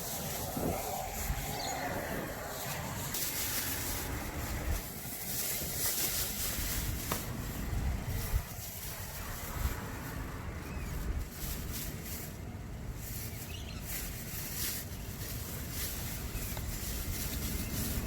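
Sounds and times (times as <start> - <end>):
low rumble with hiss: 0.0 - 18.0.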